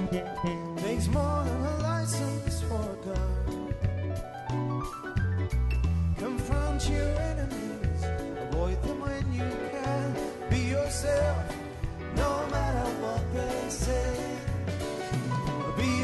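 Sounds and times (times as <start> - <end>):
man singing: 0.0 - 3.7, 6.1 - 15.0, 15.6 - 16.0
drums: 0.0 - 16.0
guitar: 0.0 - 16.0
keyboard: 0.0 - 16.0
low bass line: 0.0 - 16.0.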